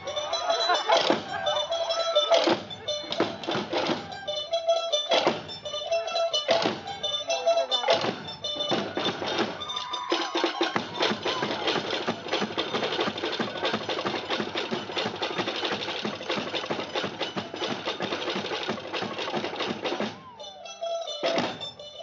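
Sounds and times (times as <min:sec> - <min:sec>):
wooden slit drums fast rhythm: 0:00.0 - 0:22.0.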